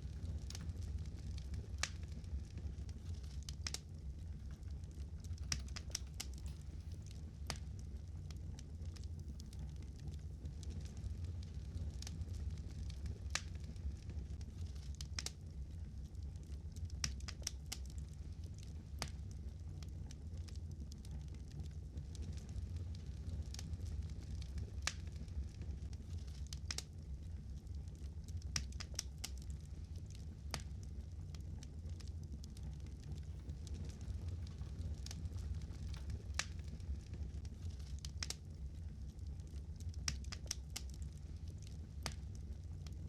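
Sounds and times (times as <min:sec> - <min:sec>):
low rumble: 0:00.0 - 0:16.6, 0:19.0 - 0:28.5, 0:29.4 - 0:43.0
fire crackling: 0:00.0 - 0:43.0.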